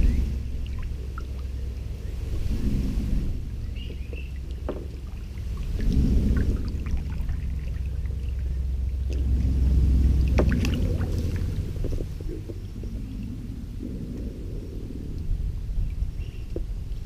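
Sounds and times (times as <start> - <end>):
alligator bellowing: 0.0 - 16.5.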